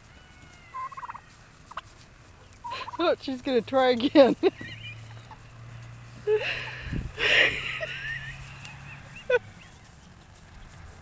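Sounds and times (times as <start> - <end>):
noisy rustle: 0.0 - 11.0.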